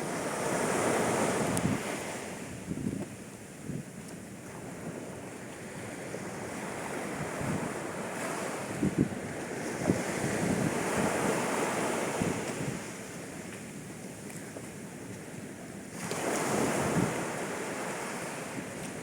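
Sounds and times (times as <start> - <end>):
waves washing up a beach: 0.0 - 19.0
wind buffeting microphone: 0.0 - 19.0.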